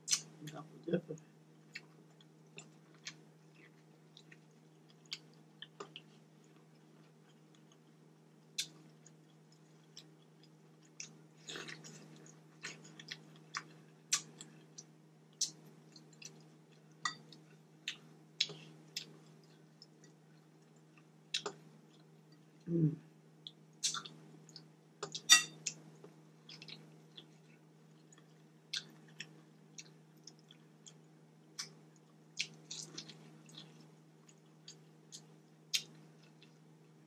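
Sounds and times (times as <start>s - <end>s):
faint steady hum: 0.0s - 37.0s
person chewing wetly: 1.6s - 22.1s, 26.4s - 36.5s.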